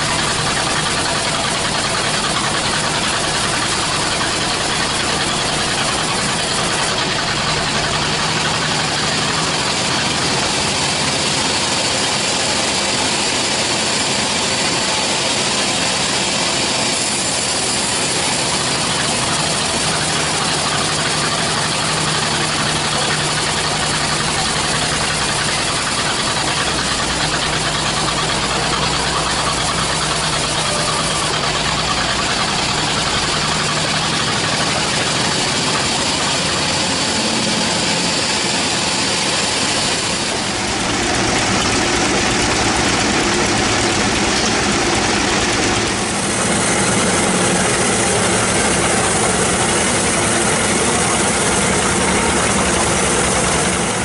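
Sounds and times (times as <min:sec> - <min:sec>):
band sawmill cutting log: 0:00.0 - 0:54.0.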